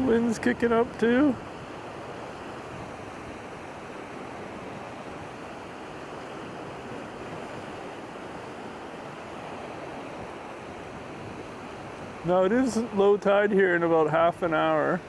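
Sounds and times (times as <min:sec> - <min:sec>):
surf on shore: 0:00.0 - 0:15.0
wind blowing on microphone: 0:00.0 - 0:15.0.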